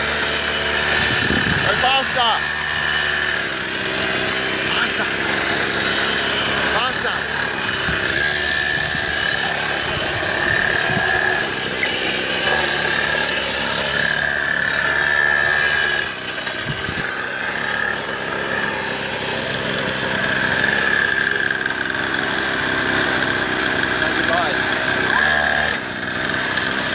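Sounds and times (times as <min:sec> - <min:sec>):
go-kart engine running: 0:00.0 - 0:26.9.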